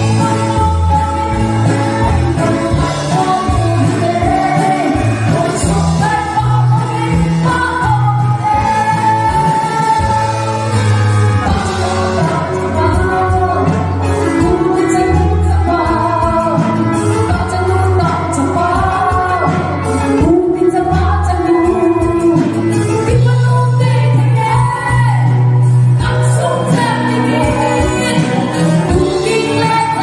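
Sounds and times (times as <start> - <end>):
live band playing: 0.0 - 30.0
woman singing into a microphone: 0.0 - 30.0.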